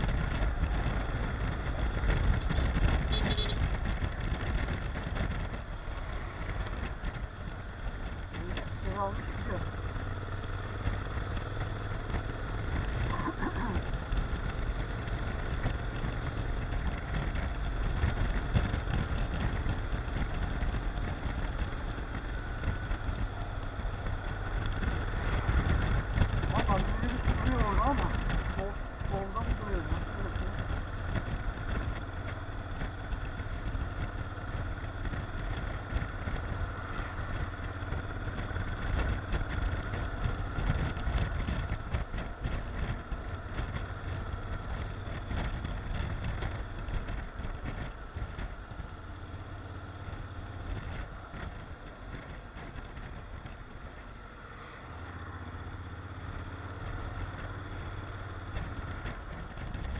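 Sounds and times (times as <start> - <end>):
motorcycle engine hum: 0.0 - 59.9
road noise: 0.0 - 59.9.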